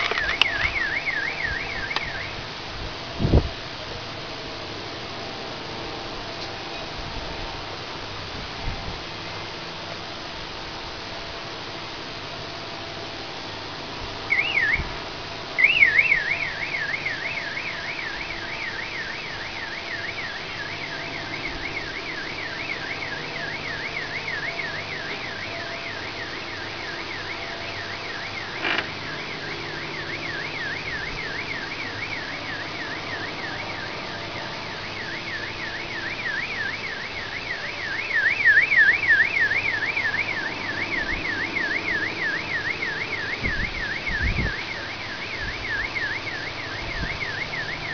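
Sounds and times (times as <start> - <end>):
car alarm siren warbling: 0.0 - 3.4, 12.1 - 47.9
steady background noise: 0.0 - 47.9.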